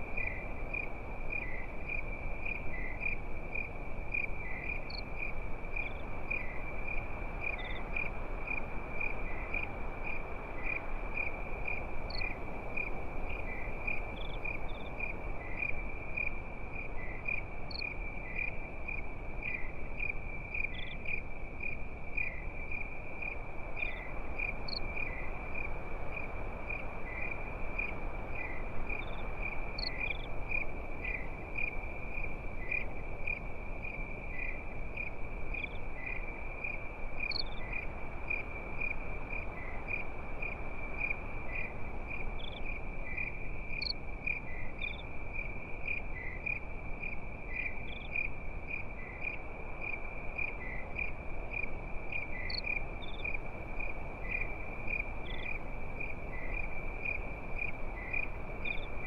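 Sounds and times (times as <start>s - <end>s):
crickets trilling: 0.0s - 59.0s
insects chirping: 0.0s - 59.0s
low hiss: 0.0s - 59.0s.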